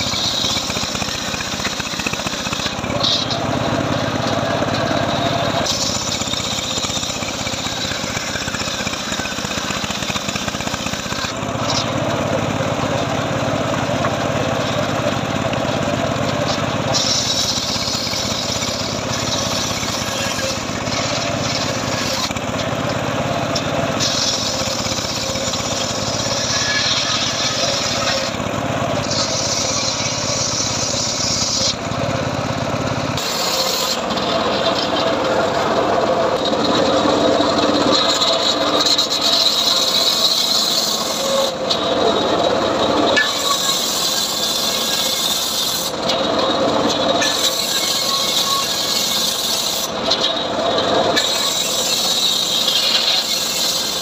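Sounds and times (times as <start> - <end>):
circular saw cutting wood: 0.0 - 54.0.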